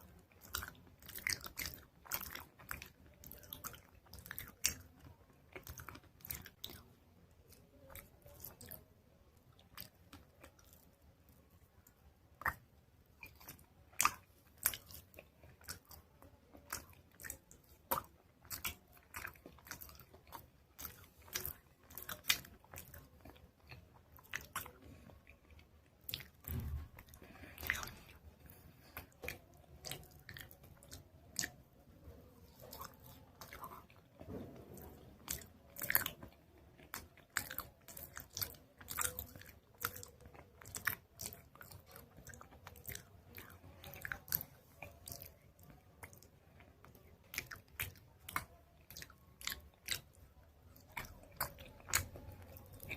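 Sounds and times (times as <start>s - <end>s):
crunchy chewing: 0.0s - 52.9s.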